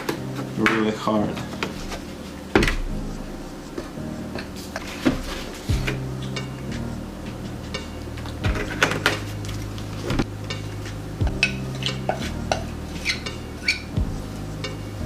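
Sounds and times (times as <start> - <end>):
background music with bass: 0.0 - 15.0.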